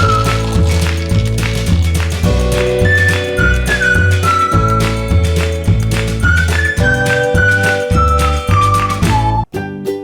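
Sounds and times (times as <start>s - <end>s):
upbeat whistle-like melody music: 0.0s - 10.0s.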